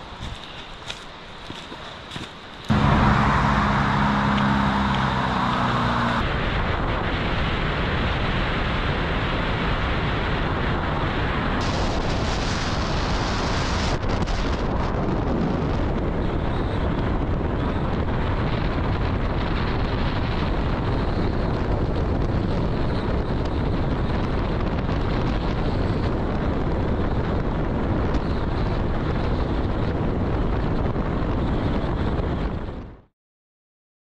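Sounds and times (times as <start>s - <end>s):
deep rumble: 0.0s - 8.8s, 9.8s - 32.4s
wind buffeting microphone: 0.0s - 33.1s.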